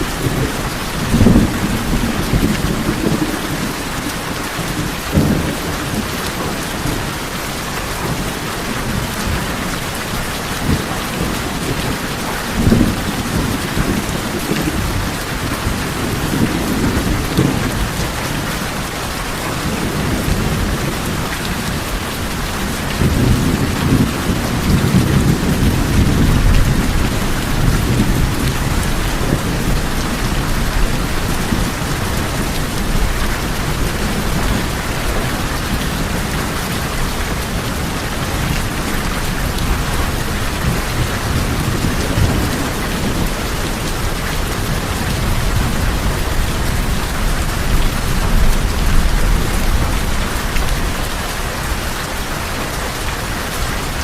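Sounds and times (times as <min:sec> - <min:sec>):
heavy rain on tin roofs: 0:00.0 - 0:54.0
thunder rumbling: 0:00.0 - 0:54.0.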